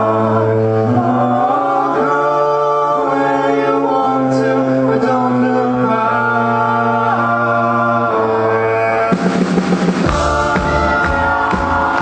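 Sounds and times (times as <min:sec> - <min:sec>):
vocal harmony singing: 0:00.0 - 0:12.0.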